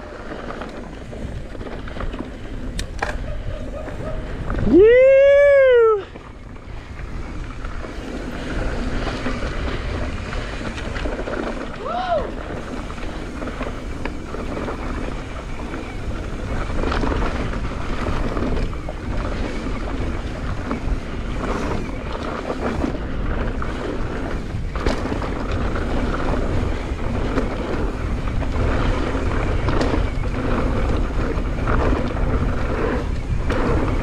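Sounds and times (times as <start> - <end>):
bike clicks and knocks: 0.0 - 4.8, 6.1 - 34.0
bike tyres on dirt: 0.0 - 34.0
wind rushing over microphone: 0.0 - 34.0.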